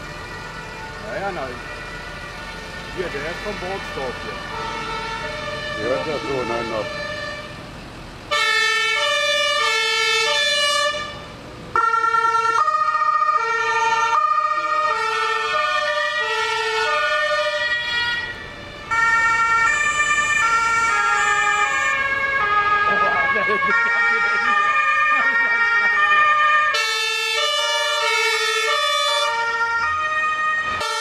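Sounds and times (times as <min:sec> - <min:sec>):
two-tone emergency sirens: 0:00.0 - 0:07.6, 0:08.3 - 0:31.0.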